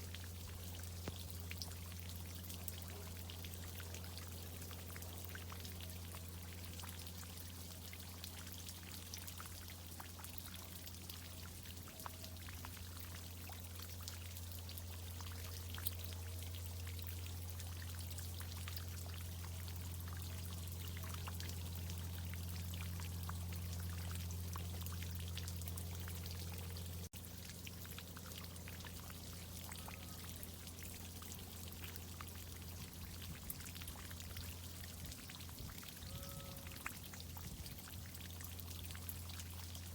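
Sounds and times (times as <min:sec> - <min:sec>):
water pouring and dripping: 0:00.0 - 0:39.9.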